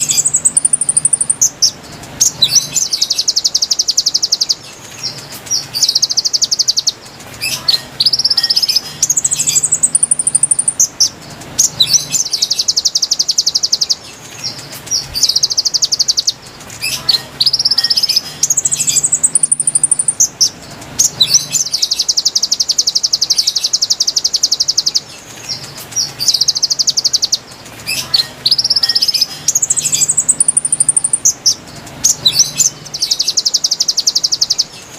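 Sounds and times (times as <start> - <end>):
bird whistled notes and trill: 0.0 - 34.9.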